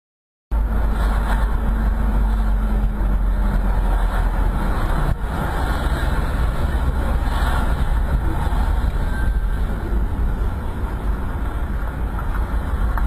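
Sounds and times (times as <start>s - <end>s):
car engine and road noise: 0.5s - 13.0s
tyres on wet asphalt: 0.6s - 13.0s.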